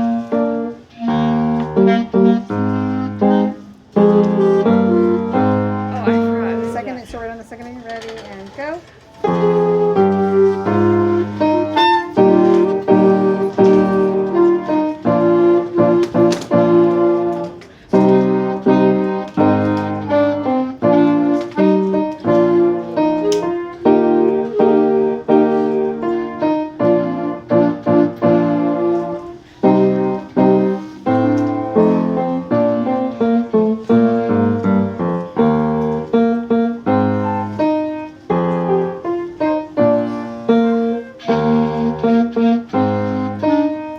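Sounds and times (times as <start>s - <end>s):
piano-like keyboard melody: 0.0s - 8.0s, 9.1s - 43.9s.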